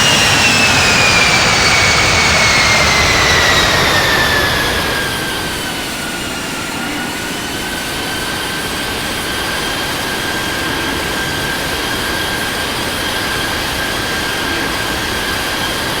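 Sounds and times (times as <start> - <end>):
jet engine whine: 0.0 - 16.0
rushing roar: 0.0 - 16.0.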